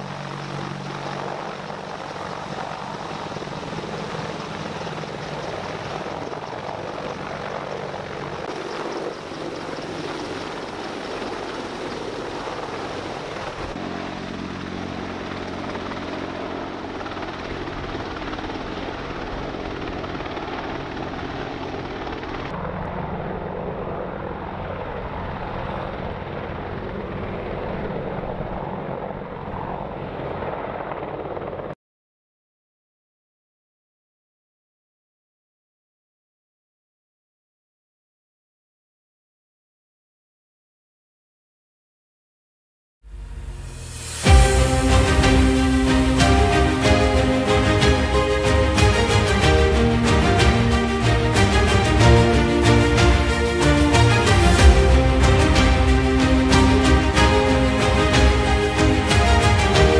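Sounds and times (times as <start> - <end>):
helicopter rotors beating: 0.0 - 31.8, 43.1 - 59.9.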